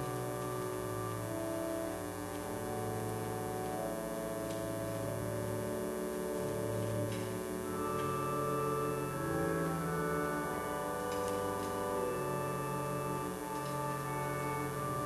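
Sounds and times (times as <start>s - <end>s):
church organ chords: 0.0s - 15.0s.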